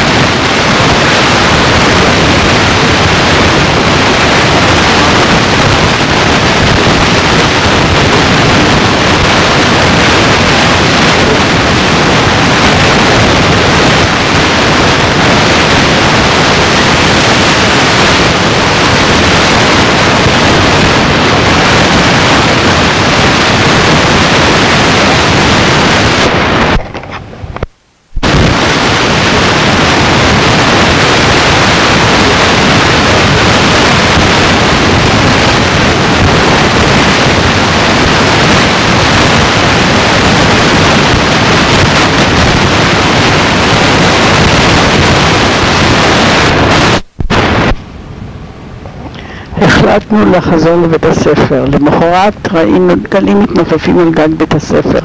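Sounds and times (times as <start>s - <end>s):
static hiss: 0.0s - 55.0s.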